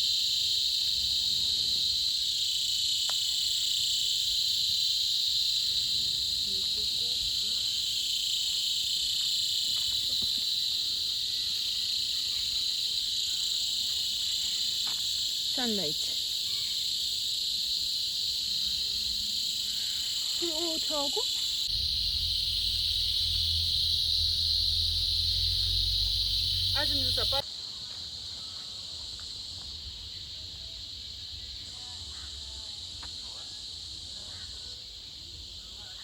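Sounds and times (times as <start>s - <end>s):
insect chorus buzzing: 0.0s - 36.0s.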